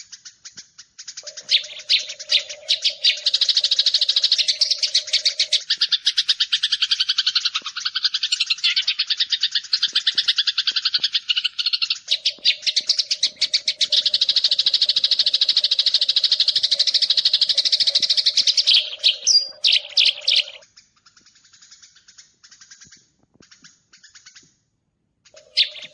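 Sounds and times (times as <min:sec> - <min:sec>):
sparrow chirping: 0:00.0 - 0:24.5, 0:25.3 - 0:25.9.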